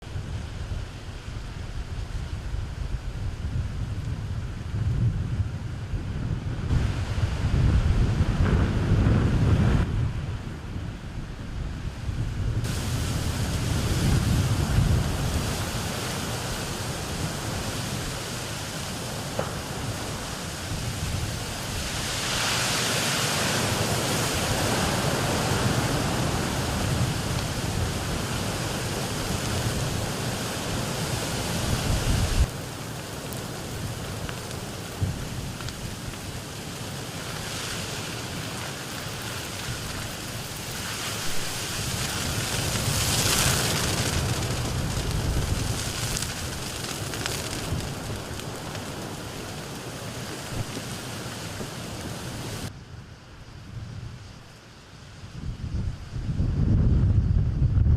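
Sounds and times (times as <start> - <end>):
strong wind roaring: 0.0 - 57.9.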